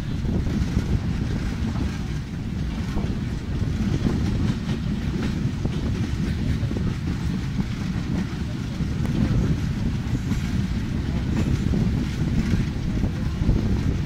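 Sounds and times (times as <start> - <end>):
train rumbling at speed: 0.0 - 14.0
wind buffeting microphone: 0.0 - 14.0.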